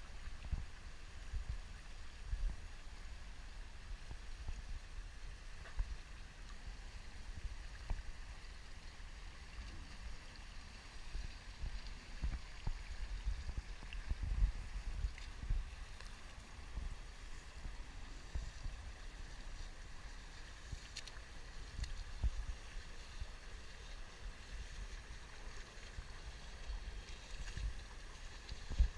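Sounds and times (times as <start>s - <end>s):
pool water sloshing and lapping: 0.0s - 28.9s.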